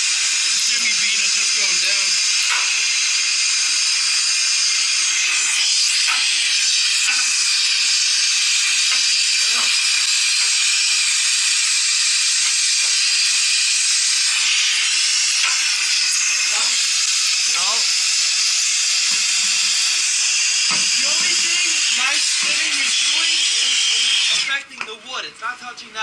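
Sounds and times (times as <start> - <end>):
loud hissing noise: 0.0 - 24.6.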